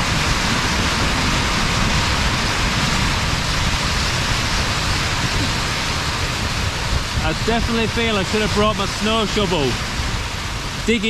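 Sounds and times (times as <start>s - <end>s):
wind and snow beating on tent: 0.0s - 11.0s.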